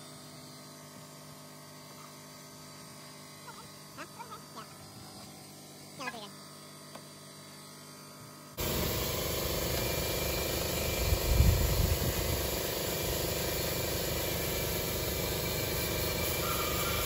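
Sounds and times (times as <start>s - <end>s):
mechanical motor hum: 0.0s - 17.0s.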